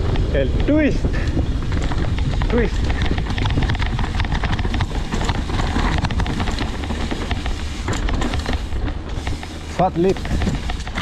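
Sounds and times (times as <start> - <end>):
bike rattles and clicks: 0.0 - 11.0
tyres rolling on dirt: 0.0 - 11.0
wind rushing over microphone: 0.0 - 11.0.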